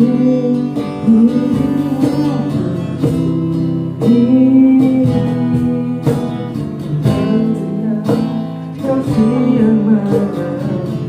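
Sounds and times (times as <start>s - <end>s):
acoustic guitar strummed: 0.0s - 11.0s
person singing: 0.0s - 11.0s.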